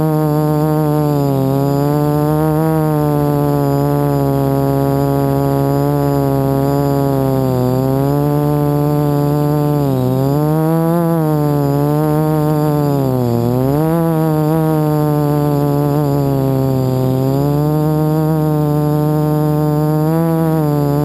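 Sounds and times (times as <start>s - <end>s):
quadcopter motors buzzing: 0.0s - 21.0s.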